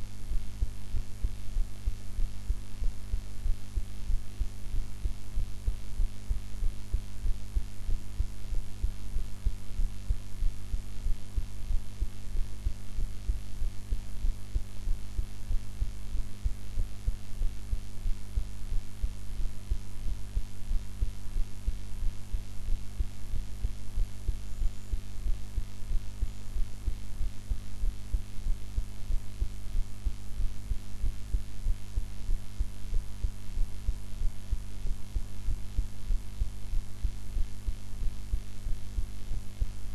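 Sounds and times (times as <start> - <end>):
heartbeat: 0.0 - 39.9
recording noise hum: 0.0 - 39.9.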